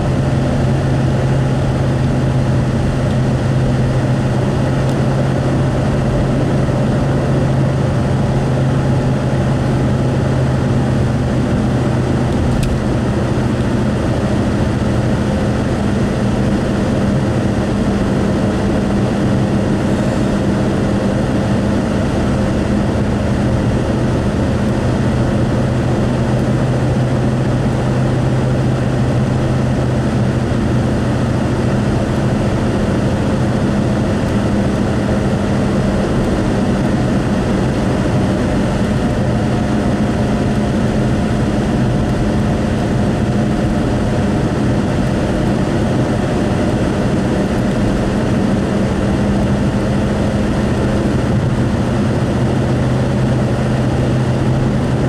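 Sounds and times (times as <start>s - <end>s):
car cruising road noise: 0.0s - 55.0s
low hum: 0.0s - 55.0s
wind rush: 0.0s - 55.0s.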